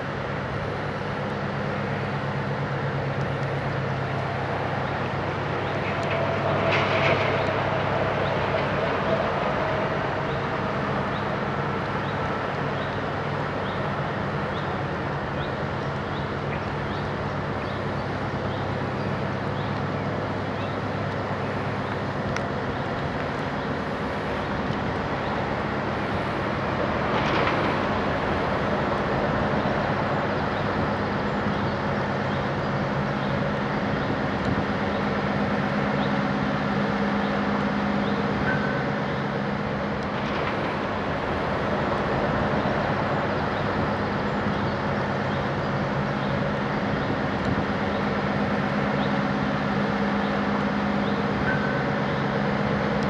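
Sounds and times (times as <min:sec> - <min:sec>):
ship diesel engine droning: 0:00.0 - 0:53.0.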